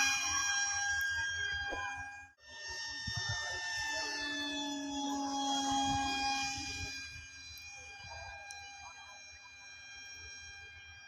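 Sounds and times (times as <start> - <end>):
model airplane motor whining: 0.0 - 11.0.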